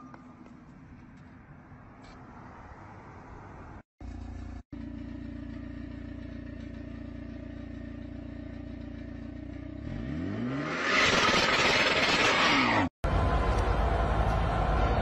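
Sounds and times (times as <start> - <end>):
car engine idling and revving: 2.9 - 15.0.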